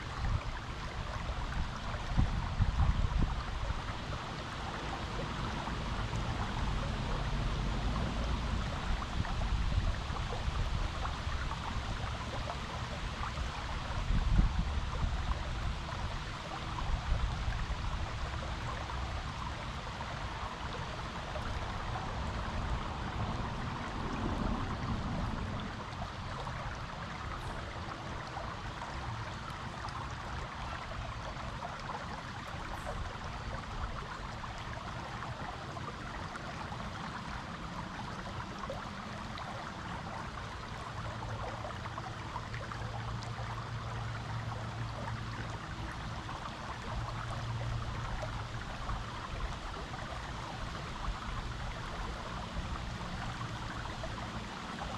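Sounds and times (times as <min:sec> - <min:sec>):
stream flowing over rocks: 0:00.0 - 0:54.9.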